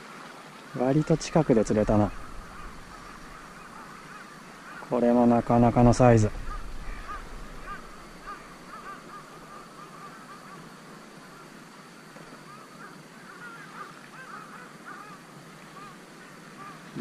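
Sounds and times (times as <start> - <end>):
steady hiss: 0.0 - 17.0
distant birds calling: 0.8 - 17.0.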